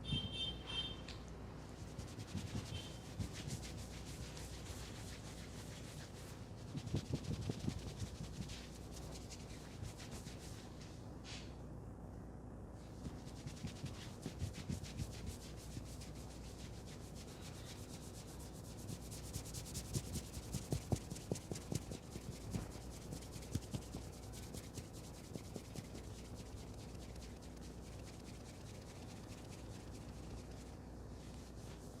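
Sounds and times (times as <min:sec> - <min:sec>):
hands rubbing hair and scalp: 0:01.7 - 0:11.5, 0:12.9 - 0:32.0.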